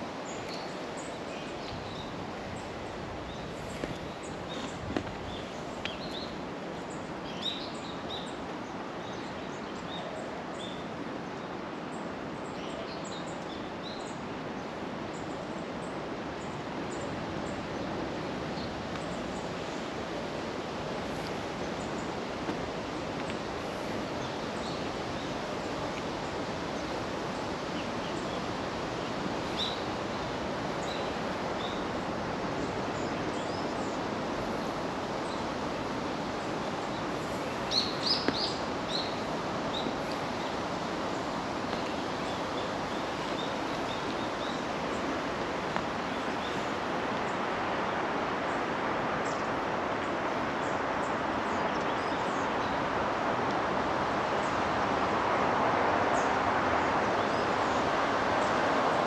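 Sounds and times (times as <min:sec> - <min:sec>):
steady wash of noise: 0:00.0 - 0:59.0.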